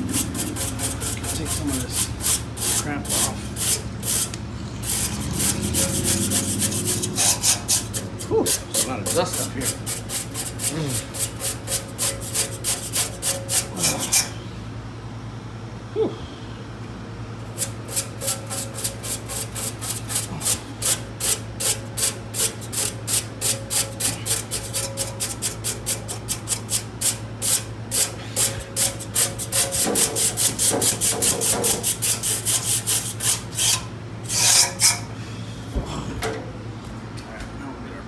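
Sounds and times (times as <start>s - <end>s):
brush scrubbing metal fins: 0.0s - 14.3s, 17.6s - 35.0s
steady low hum: 0.0s - 38.0s.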